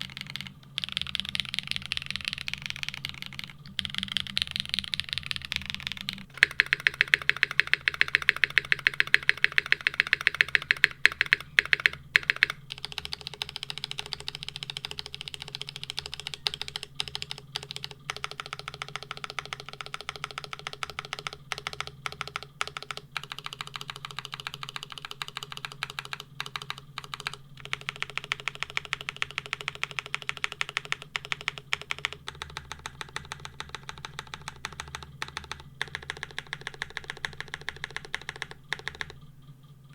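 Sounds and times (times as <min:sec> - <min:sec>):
mechanical keyboard typing: 0:00.0 - 0:39.4.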